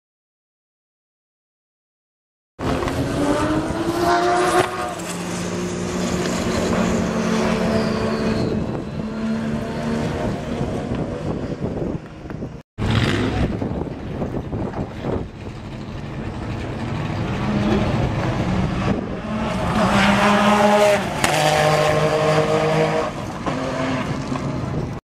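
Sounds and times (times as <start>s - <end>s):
race car engine accelerating: 2.6s - 24.6s.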